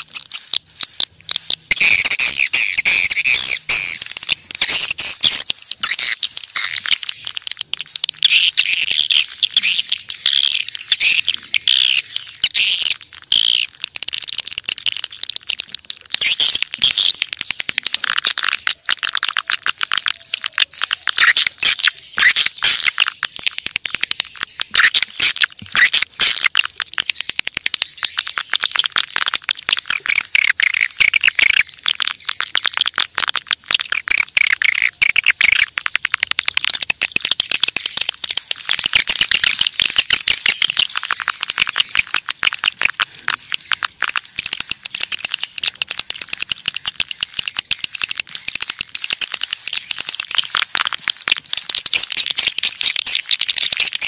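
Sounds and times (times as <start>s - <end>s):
swiftlets chirping and rattling: 0.0s - 54.0s.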